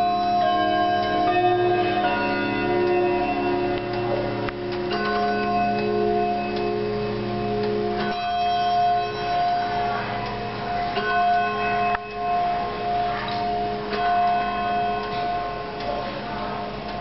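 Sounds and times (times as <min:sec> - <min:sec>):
clock chime tubes ringing: 0:00.0 - 0:17.0.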